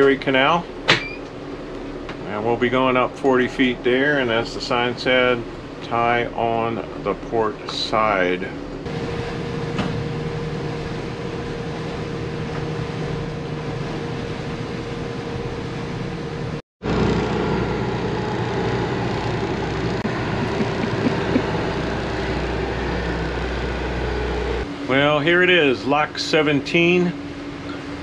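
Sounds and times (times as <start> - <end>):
boat engines droning: 0.0 - 28.0.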